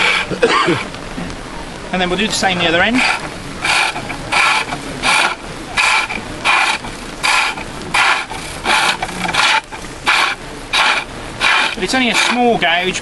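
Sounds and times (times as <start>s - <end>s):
gouge scraping on turning wood: 0.0s - 0.4s, 2.6s - 12.8s.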